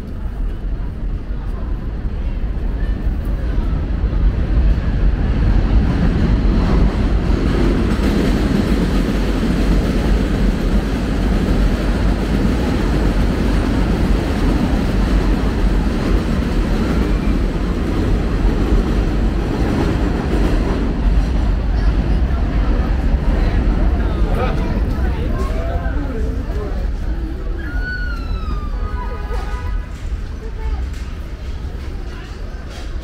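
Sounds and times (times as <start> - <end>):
elevated train rumbling overhead: 0.0 - 33.0.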